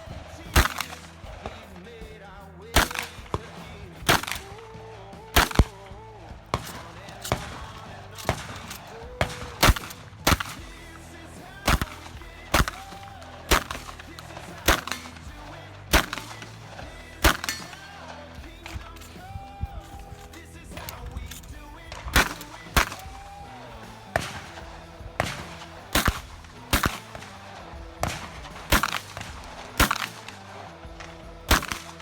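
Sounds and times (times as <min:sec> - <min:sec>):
shotgun shots: 0:00.0 - 0:02.0, 0:02.7 - 0:32.0
background music: 0:00.0 - 0:32.0.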